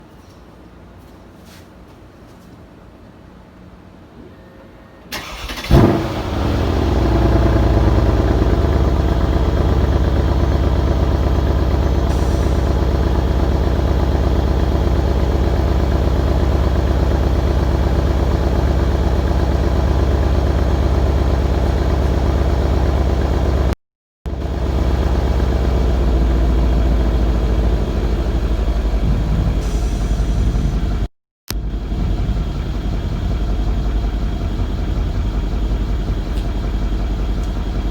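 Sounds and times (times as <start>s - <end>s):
car engine starting and idling: 5.1s - 37.9s.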